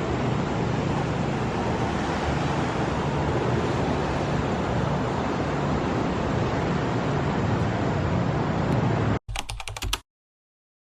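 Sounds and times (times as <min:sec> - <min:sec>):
steady rushing noise: 0:00.0 - 0:09.2.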